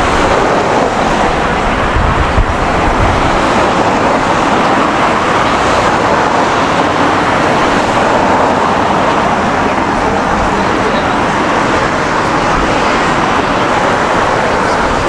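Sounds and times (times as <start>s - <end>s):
road vehicles passing: 0.0s - 15.0s.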